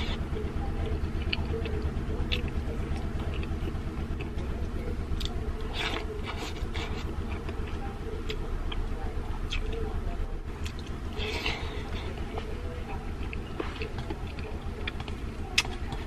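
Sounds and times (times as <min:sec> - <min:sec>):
chewing: 0:00.0 - 0:16.0
steady low hum: 0:00.0 - 0:16.0.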